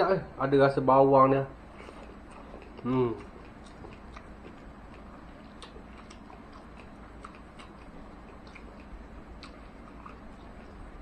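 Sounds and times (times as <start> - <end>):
man chewing food: 1.6 - 11.0.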